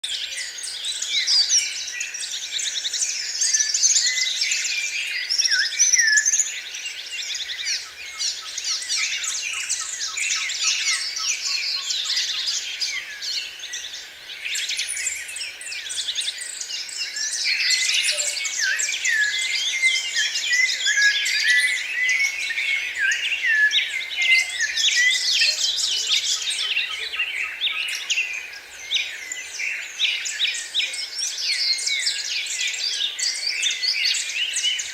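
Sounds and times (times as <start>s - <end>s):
songbirds chorus: 0.0s - 34.9s.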